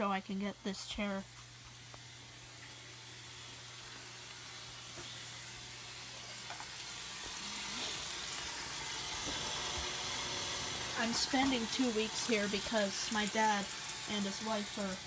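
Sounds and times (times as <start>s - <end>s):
washing machine water rushing: 2.2s - 15.0s.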